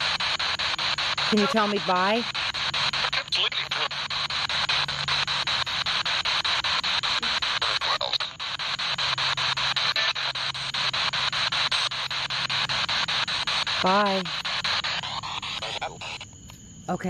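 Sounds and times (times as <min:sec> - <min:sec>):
warbling radio fragment: 0:00.0 - 0:16.4
pulsing radio static: 0:00.0 - 0:17.0.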